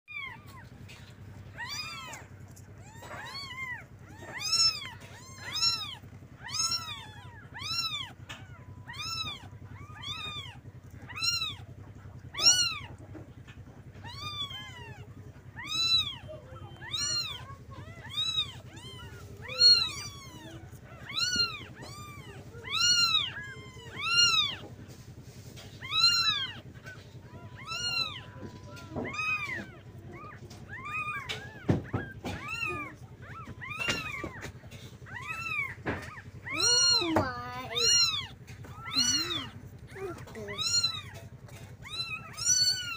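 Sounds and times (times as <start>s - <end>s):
kittens mewing: 0.1s - 42.9s.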